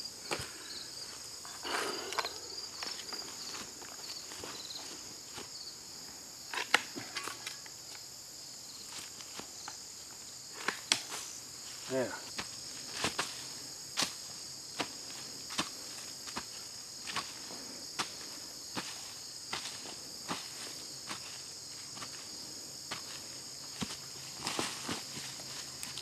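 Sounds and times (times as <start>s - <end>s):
high insect chorus trilling: 0.0s - 26.0s.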